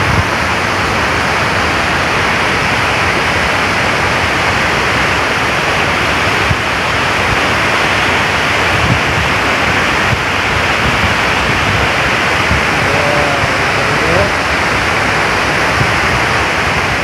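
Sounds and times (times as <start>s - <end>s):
rushing falling water: 0.0s - 17.0s.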